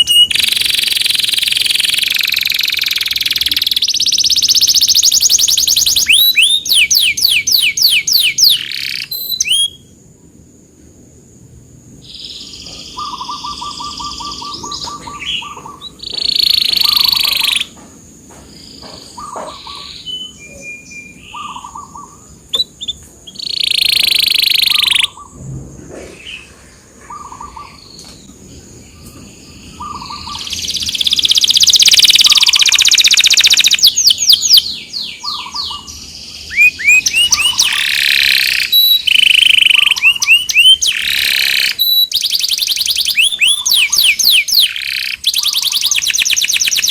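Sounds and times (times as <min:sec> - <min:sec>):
canary singing: 0:00.0 - 0:10.0, 0:12.0 - 0:17.8, 0:18.6 - 0:25.3, 0:27.1 - 0:46.9.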